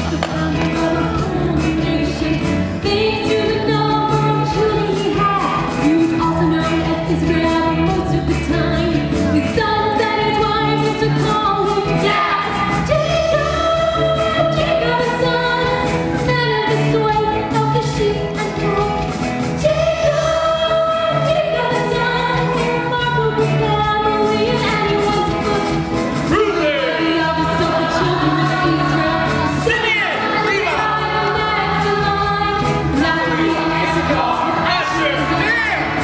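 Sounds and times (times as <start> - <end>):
group singing show tune: 0.0 - 36.0.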